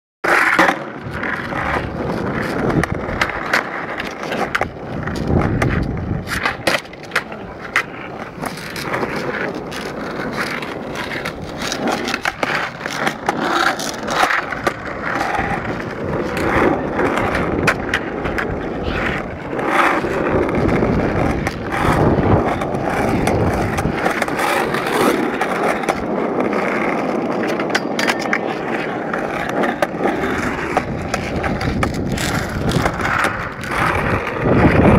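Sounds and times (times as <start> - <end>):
skateboard clacks on ground: 0.2 - 34.9
skateboard wheels rolling: 0.2 - 34.9.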